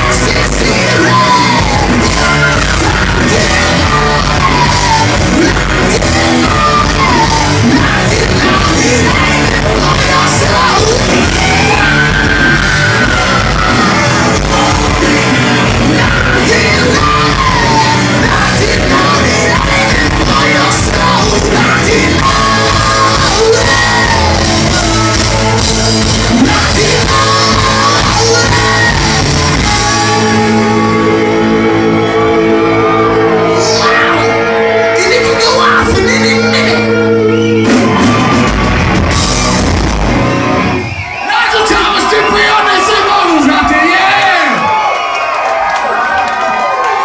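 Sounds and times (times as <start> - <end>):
singer shouting and singing: 0.0 - 38.5, 41.0 - 44.8
rock band playing loudly: 0.0 - 45.3.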